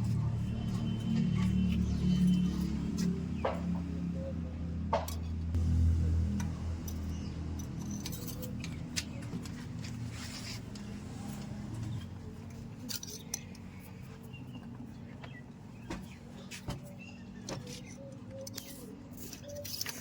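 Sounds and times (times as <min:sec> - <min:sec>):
engine running at low speed: 0:00.0 - 0:18.2.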